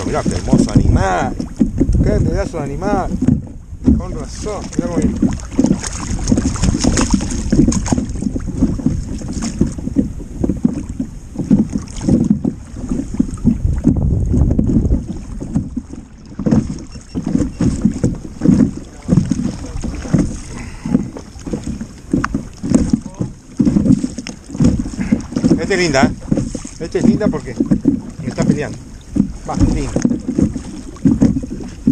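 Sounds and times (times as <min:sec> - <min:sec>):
water slapping kayak hull: 0:00.0 - 0:31.9
wind buffeting microphone: 0:00.0 - 0:31.9.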